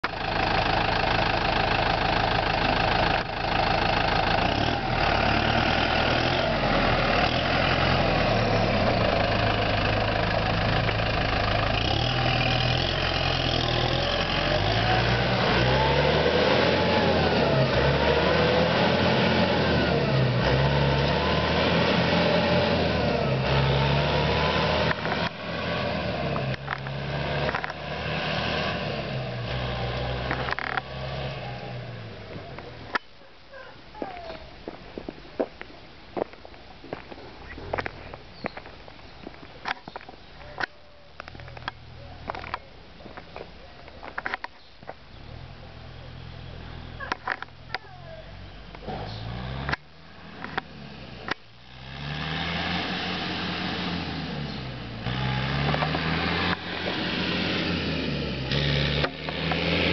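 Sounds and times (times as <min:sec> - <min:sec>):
tractor diesel engine: 0:00.0 - 0:59.9.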